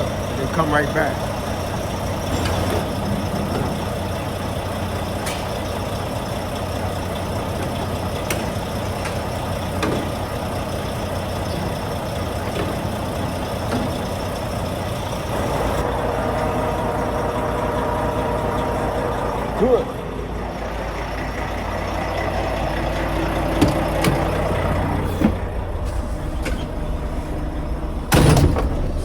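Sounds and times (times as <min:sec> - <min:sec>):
diesel truck engine running: 0:00.0 - 0:29.0.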